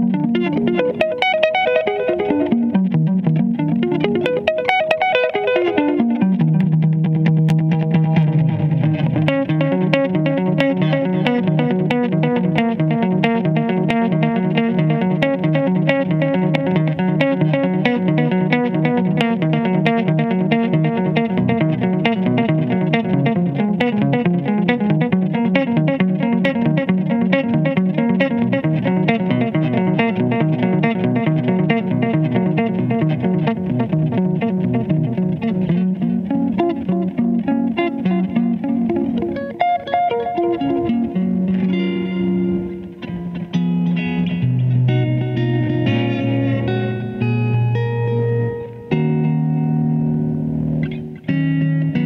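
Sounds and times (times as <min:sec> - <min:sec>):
electric guitar fast picking: 0:00.0 - 0:52.0.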